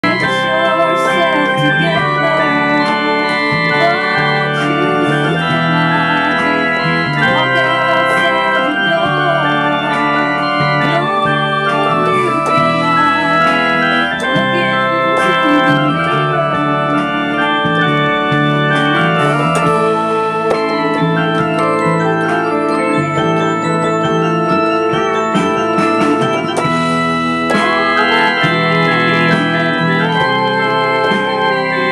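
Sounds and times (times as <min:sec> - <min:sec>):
organ-like keyboard chords: 0:00.0 - 0:31.9
recorded song playing: 0:00.0 - 0:31.9.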